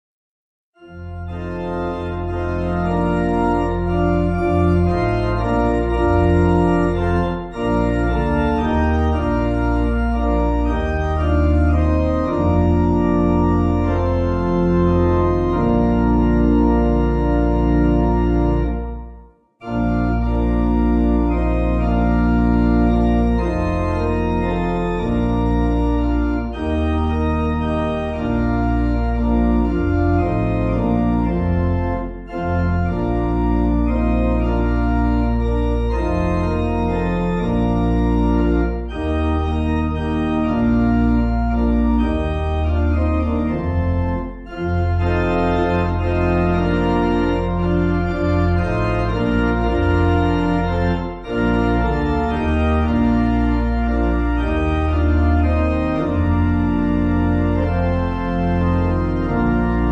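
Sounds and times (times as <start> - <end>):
organ playing a hymn: 0.8 - 59.9.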